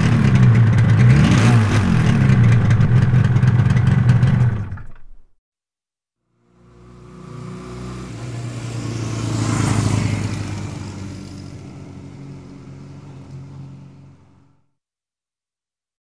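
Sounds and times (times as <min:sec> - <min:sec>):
motorcycle engine driving past: 0:00.0 - 0:05.3, 0:06.3 - 0:14.6.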